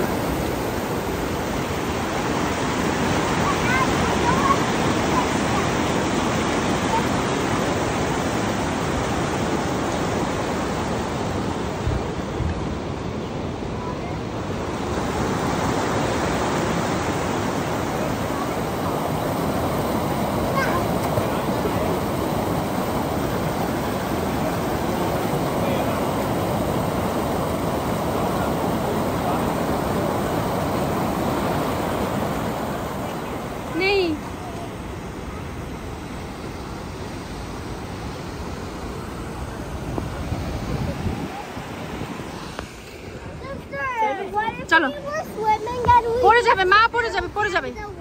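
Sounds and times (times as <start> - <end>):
water rushing over rocks: 0.0 - 48.0.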